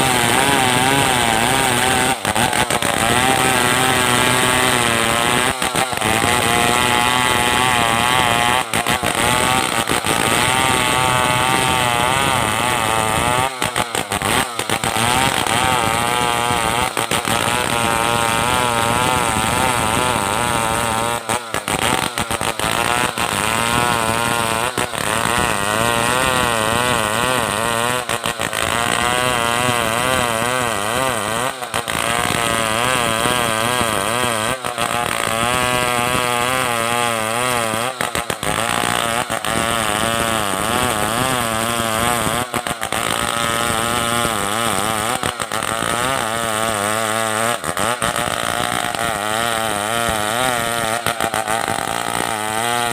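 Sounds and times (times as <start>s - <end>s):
chainsaw ripping a log: 0.0s - 52.9s.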